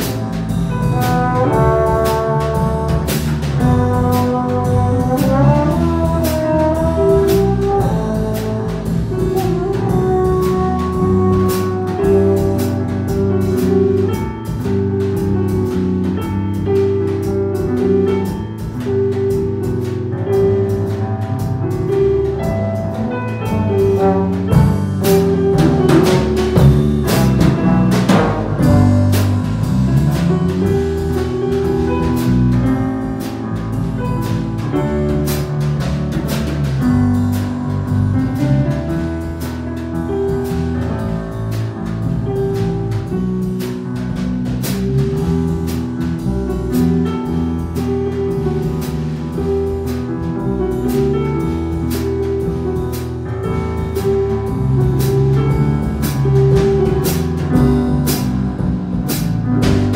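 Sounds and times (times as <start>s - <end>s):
small jazz band playing: 0.0s - 59.9s.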